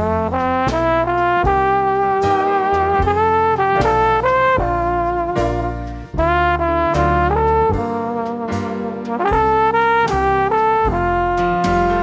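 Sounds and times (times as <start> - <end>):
brass melody: 0.0 - 12.0
low bass hits: 0.0 - 12.0.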